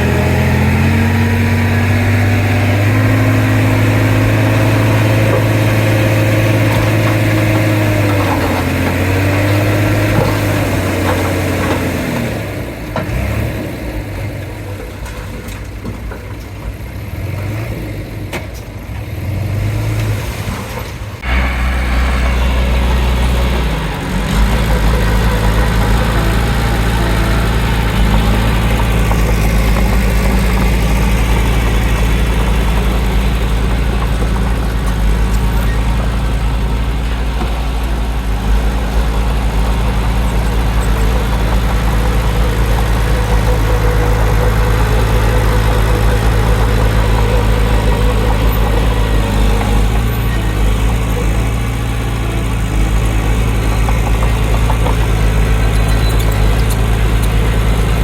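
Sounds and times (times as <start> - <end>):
deep loud engine rumble: 0.0 - 58.0
diesel engines of earthmoving machinery: 0.0 - 58.0.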